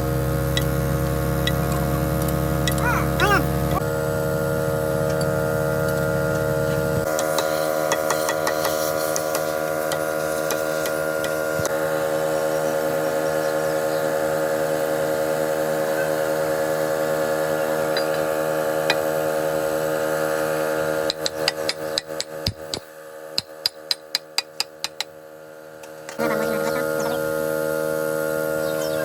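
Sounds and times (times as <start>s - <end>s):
machine hum: 0.0s - 23.5s, 24.6s - 29.0s.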